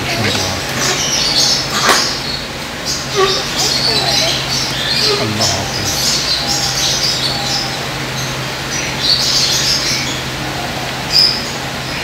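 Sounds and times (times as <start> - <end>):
low steady hum: 0.0 - 11.0
birds chirping: 0.0 - 12.0.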